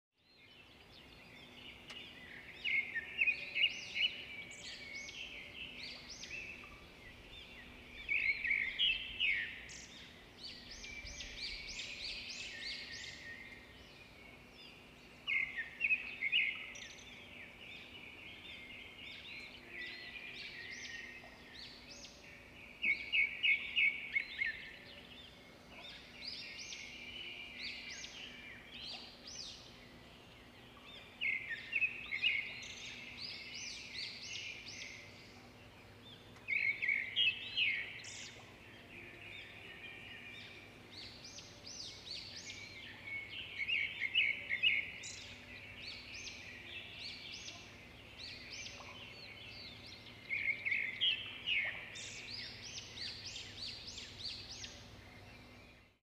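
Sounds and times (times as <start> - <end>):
birds chirping: 0.4 - 56.0.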